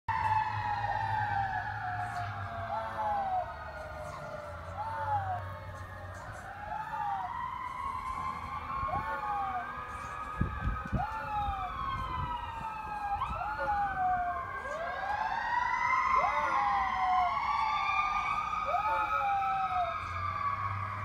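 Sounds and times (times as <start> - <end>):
fire truck sirens wailing: 0.1 - 21.0.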